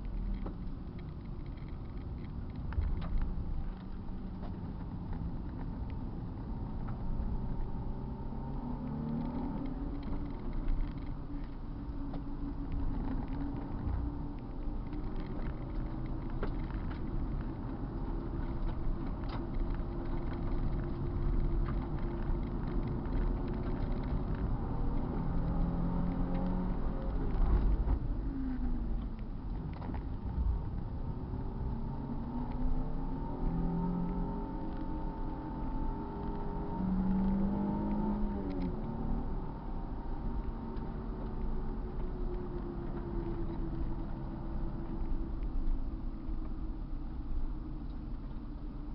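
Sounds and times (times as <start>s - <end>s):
low rumble: 0.0s - 48.9s.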